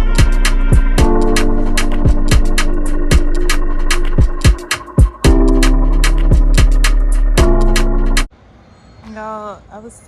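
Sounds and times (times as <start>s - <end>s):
electronic beat music: 0.0s - 8.3s.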